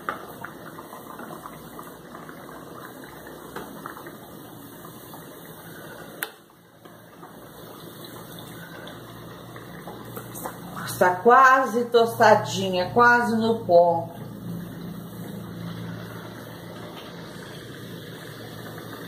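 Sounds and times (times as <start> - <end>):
cassava deep-frying in hot oil: 0.0 - 19.0.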